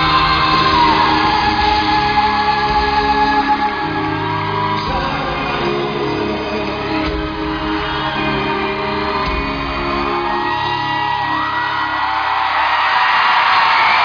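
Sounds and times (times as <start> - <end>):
crowd whooping and screaming: 0.0 - 14.0
live band music in arena: 0.0 - 14.0.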